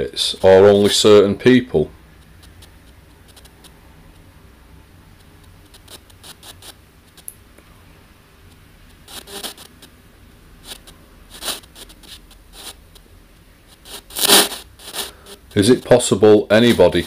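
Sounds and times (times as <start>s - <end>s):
crackling radio static bursts: 0.0s - 7.5s, 8.2s - 17.0s.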